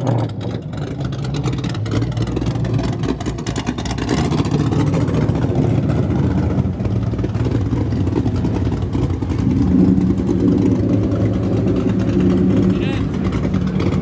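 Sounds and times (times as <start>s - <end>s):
drag racing car engine: 0.0s - 14.0s.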